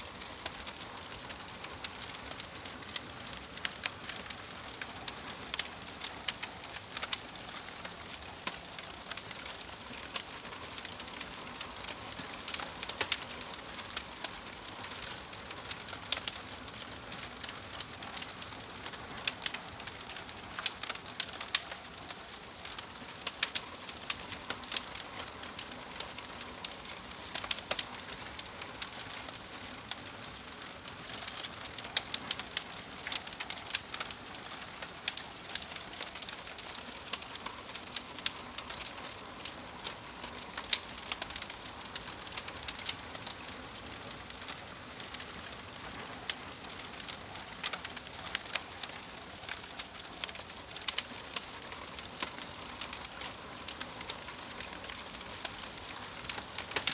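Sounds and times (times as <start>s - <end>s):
fire crackling: 0.0s - 56.9s.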